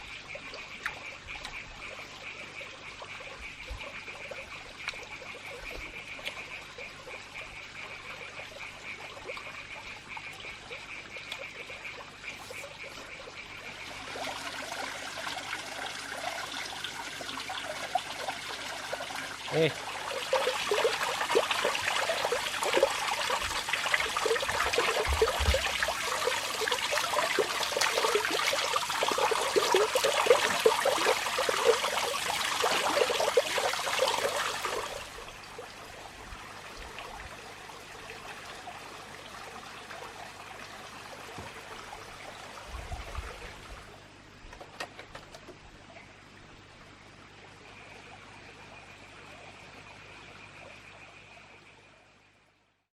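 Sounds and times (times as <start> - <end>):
water splashing and trickling: 0.0 - 49.8.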